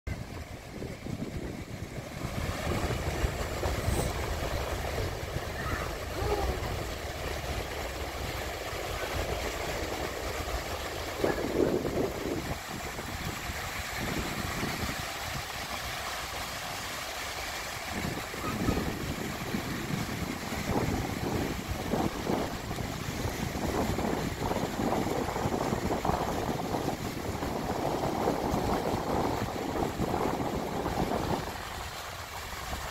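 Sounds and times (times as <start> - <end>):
small waves breaking on sand: 0.1 - 32.9
wind rumble on microphone: 0.1 - 32.9.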